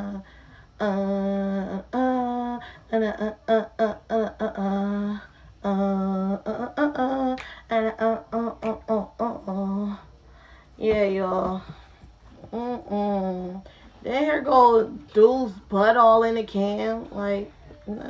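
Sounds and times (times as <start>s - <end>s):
woman humming: 0.0s - 0.2s, 0.8s - 10.2s, 10.8s - 15.4s, 16.7s - 18.0s.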